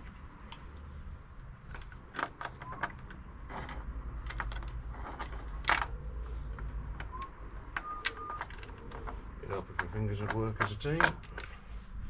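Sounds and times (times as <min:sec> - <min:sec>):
metal parts and tools clinking: 0:01.6 - 0:11.6.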